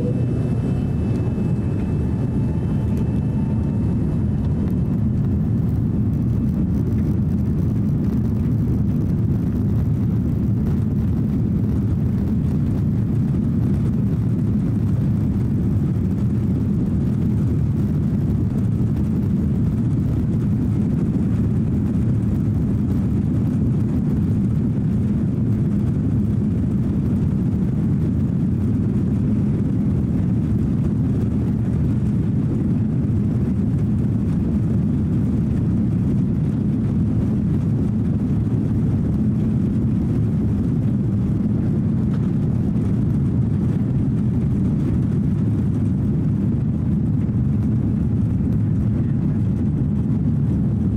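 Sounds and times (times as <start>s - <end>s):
jet engines low rumble: 0.0s - 50.9s.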